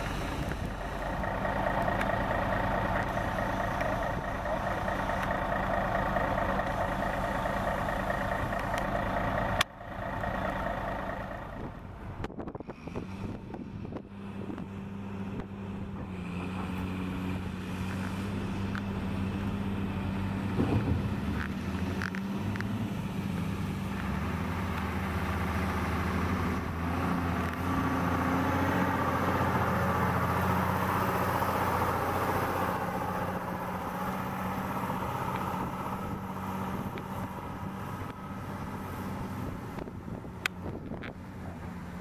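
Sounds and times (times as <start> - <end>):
truck diesel engine: 0.0 - 42.0.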